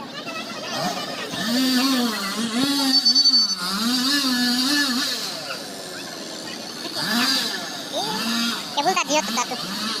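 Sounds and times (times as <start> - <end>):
diesel engine revving under load: 0.6 - 10.0.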